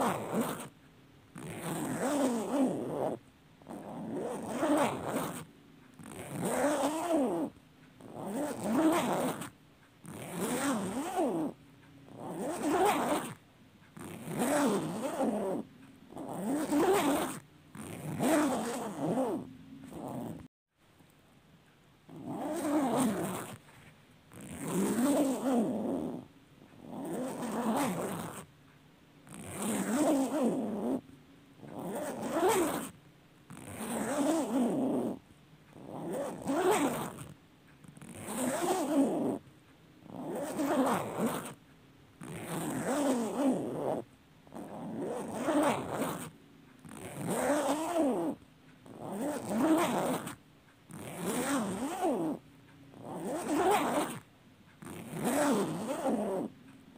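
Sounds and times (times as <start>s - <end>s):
zipper rasping: 0.0s - 13.4s, 14.0s - 20.5s, 22.1s - 28.5s, 29.3s - 31.0s, 31.6s - 41.6s, 42.2s - 56.6s.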